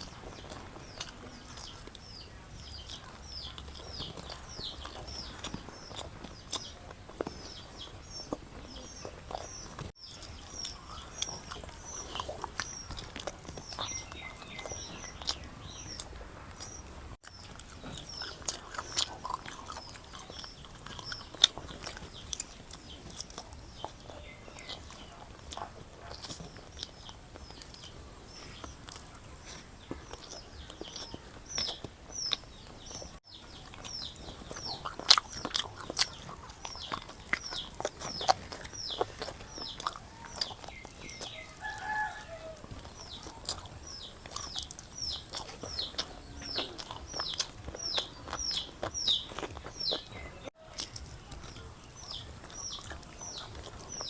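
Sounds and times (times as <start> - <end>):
loud crunches: 0.0 - 54.0
person chewing food: 0.0 - 54.0.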